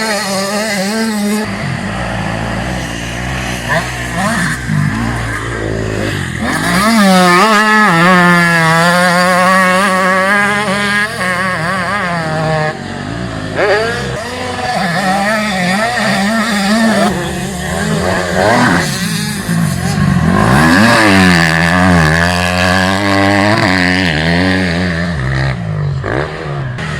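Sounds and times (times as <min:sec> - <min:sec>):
motocross bike engine revving: 0:00.0 - 0:26.9.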